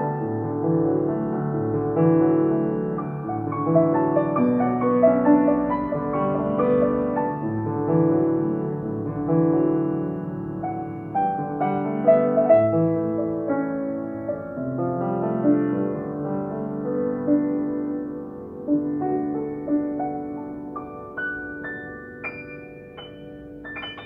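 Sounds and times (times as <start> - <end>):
piano notes and chords: 0.0 - 24.0.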